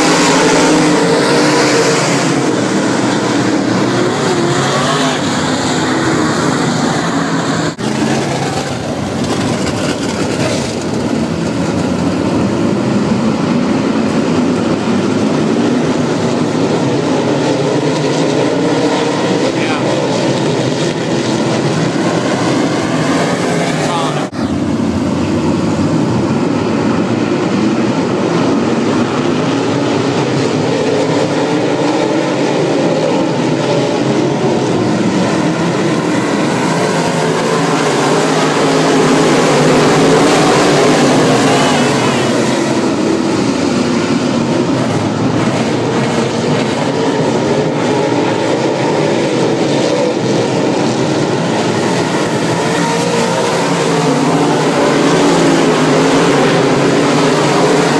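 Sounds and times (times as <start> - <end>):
race car engines roaring: 0.0 - 57.9.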